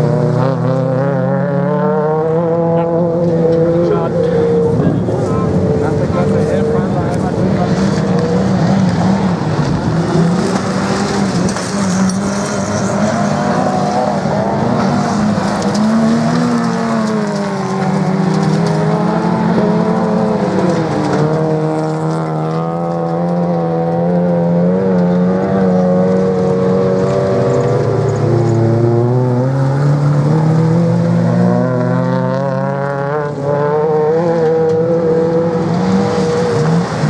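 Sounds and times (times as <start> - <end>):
race car engines running hard: 0.0 - 37.0.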